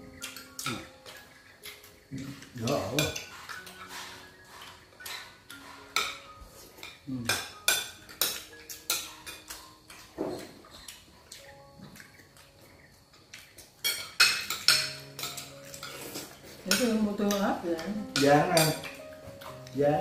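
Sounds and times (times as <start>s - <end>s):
cutlery clinking on plates: 0.1s - 12.6s, 13.3s - 19.8s.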